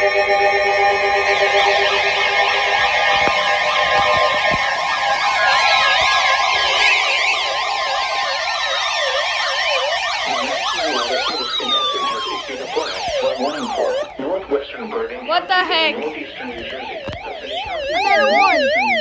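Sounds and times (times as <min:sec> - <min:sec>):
steady tones: 0:00.0 - 0:19.0
warbling electronic sirens: 0:00.0 - 0:19.0.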